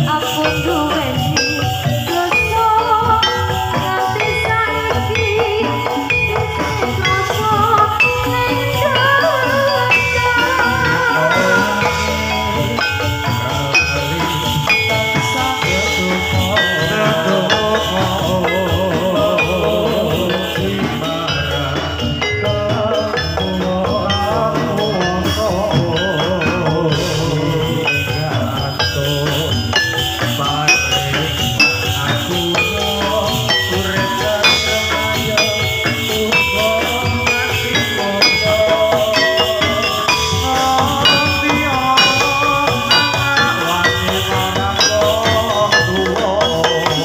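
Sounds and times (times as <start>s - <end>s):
drumming: 0.0s - 47.0s
metallophone notes ringing: 0.0s - 47.0s
wavering melodic line: 0.0s - 47.0s.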